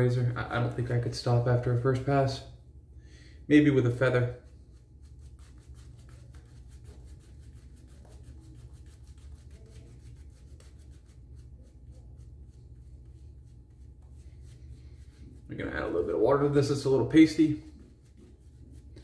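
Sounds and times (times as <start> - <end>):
low steady hum: 0.0 - 19.0
shaving brush rubbing lather: 3.6 - 19.0.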